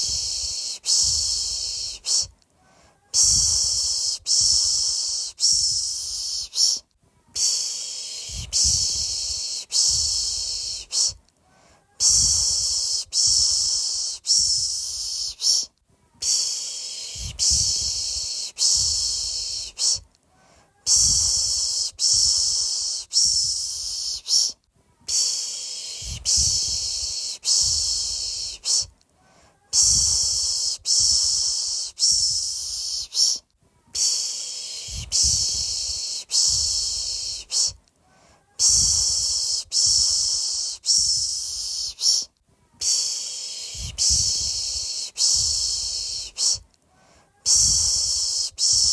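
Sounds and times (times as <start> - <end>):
person shushing: 0.0 - 28.9, 29.5 - 37.8, 38.6 - 46.7, 47.3 - 48.9.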